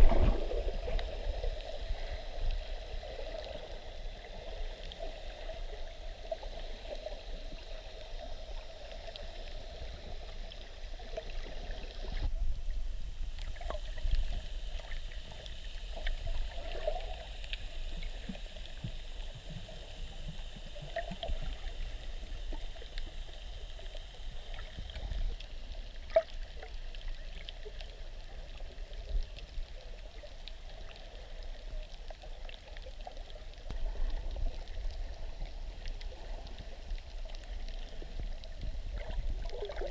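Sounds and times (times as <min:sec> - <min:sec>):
small underwater clicks: 0:00.0 - 0:12.7, 0:13.3 - 0:39.9
muffled water sloshing and gurgling: 0:00.0 - 0:39.9.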